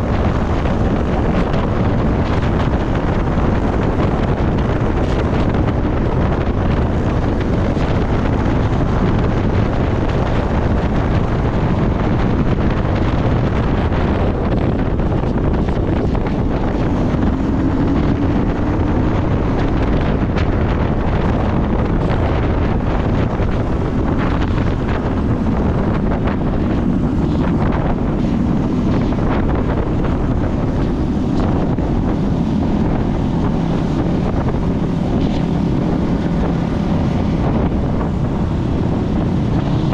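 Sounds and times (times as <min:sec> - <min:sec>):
low motorcycle engine drone: 0:00.0 - 0:39.9
wind rushing over microphone: 0:00.0 - 0:39.9.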